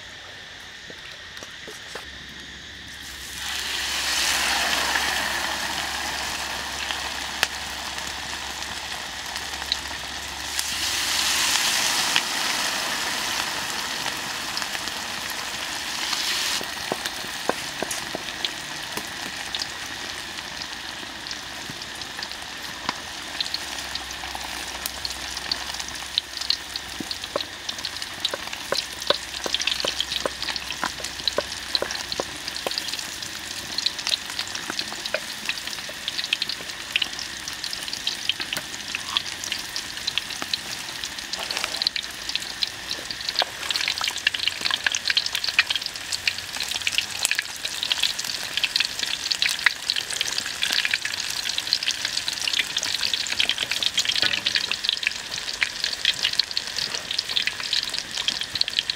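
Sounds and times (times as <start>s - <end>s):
pork deep-frying in hot oil: 0.0s - 58.9s.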